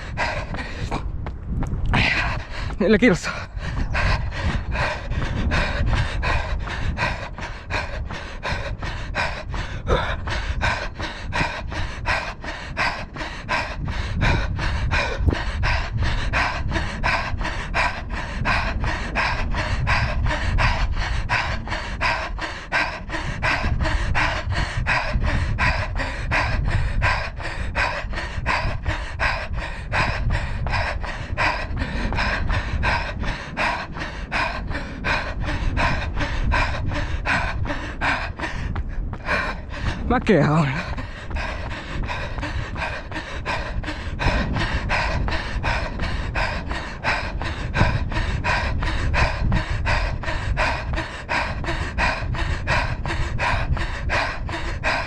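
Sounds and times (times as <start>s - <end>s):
footsteps on asphalt: 0.0s - 17.6s, 26.8s - 54.0s
heavy rhythmic panting: 0.0s - 55.0s.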